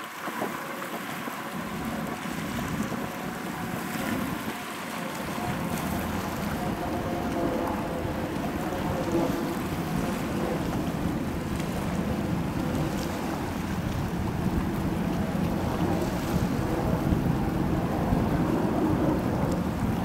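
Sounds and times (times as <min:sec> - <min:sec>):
jet engines rumbling: 0:00.2 - 0:20.0.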